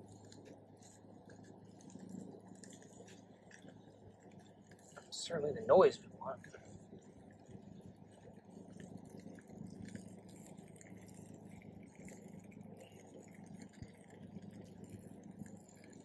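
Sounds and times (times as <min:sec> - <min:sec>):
faint ticks: 0:00.0 - 0:05.1, 0:06.3 - 0:16.0
steady low rumble: 0:00.0 - 0:16.0.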